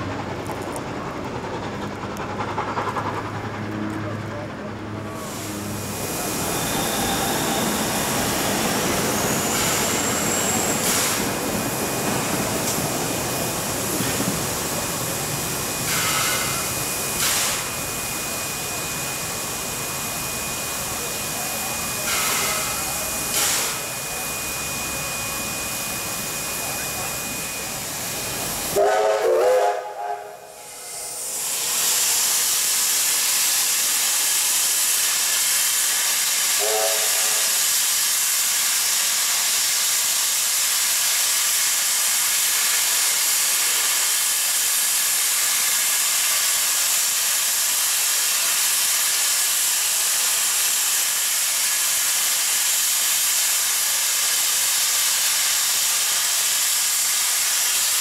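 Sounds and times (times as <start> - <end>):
steam locomotive hissing: 4.9 - 58.0.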